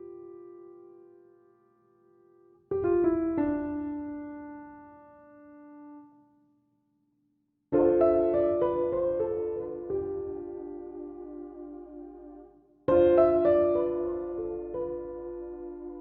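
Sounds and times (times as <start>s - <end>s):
soft piano chords: 0.0s - 6.4s, 7.7s - 16.0s.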